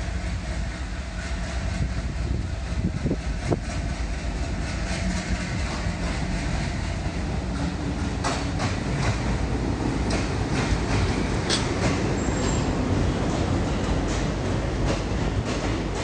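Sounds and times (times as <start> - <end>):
train wheels rumbling on rails: 0.0 - 16.0
wheels clicking over rail joints: 2.8 - 16.0.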